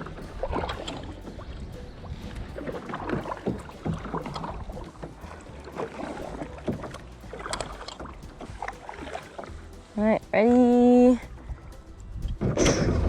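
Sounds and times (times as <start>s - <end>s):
low steady rumble: 0.0s - 13.0s
paddle splashing in water: 0.0s - 13.0s.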